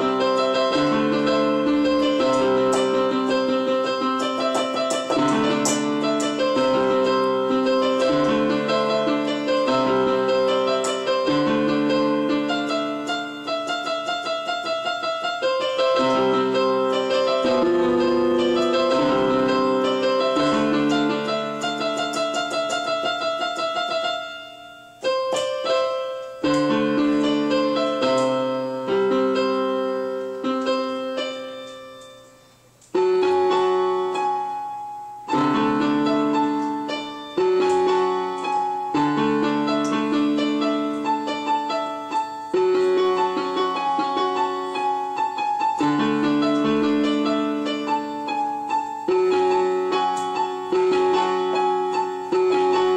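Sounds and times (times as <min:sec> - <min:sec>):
electronic keyboard piano chords: 0:00.0 - 0:52.9.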